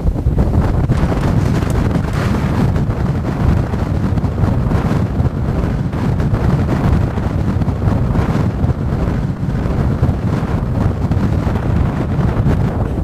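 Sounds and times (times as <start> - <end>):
strong gusty wind on microphone: 0.0 - 13.0.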